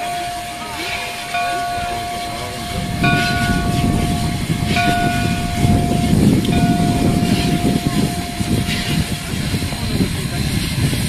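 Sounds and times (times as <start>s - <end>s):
steam locomotive chime whistle: 0.0s - 11.0s
train low rumble: 0.0s - 11.0s.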